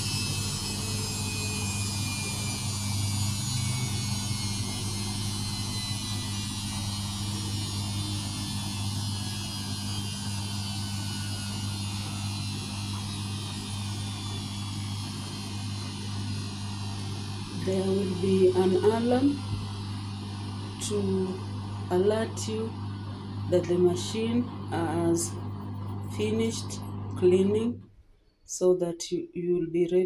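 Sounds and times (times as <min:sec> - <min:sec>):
washing machine motor winding down: 0:00.0 - 0:27.8.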